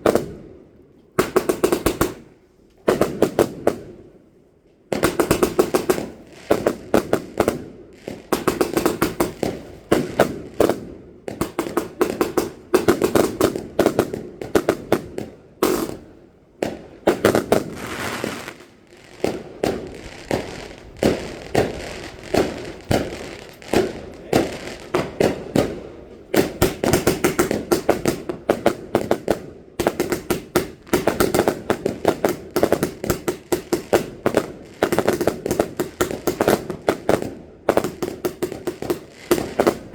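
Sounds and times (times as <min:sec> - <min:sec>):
fireworks crackling bangs: 0:04.9 - 0:39.9.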